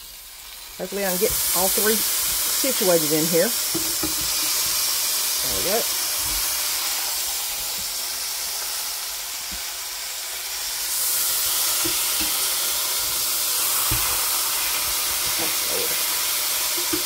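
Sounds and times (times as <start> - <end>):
chicken sizzling on a grill: 0.0 - 17.0.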